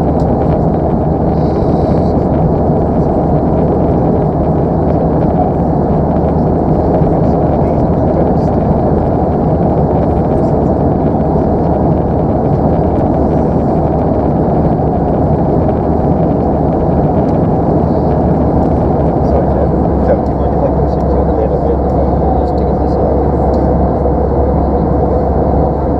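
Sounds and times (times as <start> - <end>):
airplane cabin rumble: 0.0 - 25.9.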